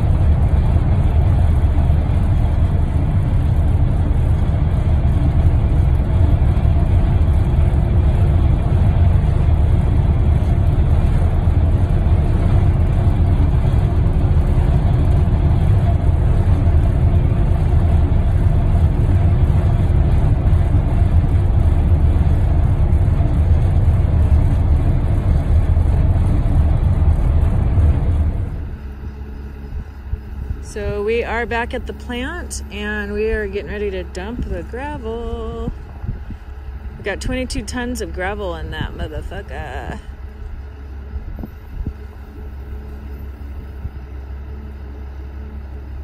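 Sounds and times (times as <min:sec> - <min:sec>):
road noise: 0:00.0 - 0:44.0
truck diesel engine drone: 0:00.0 - 0:46.0.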